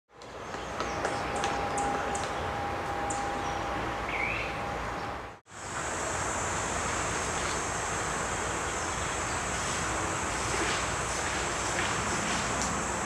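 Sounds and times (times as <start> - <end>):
insects droning: 0.9 - 13.0.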